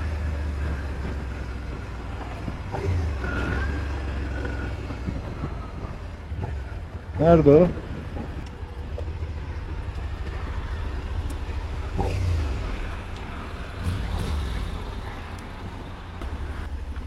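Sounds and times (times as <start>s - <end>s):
motorcycle engine: 0.0s - 17.0s
road rumble: 0.0s - 17.0s
wind noise: 0.0s - 17.0s.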